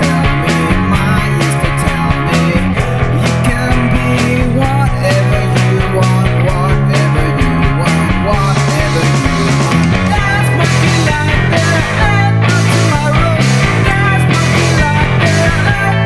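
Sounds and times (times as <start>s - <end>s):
rock song with guitars: 0.0s - 16.0s.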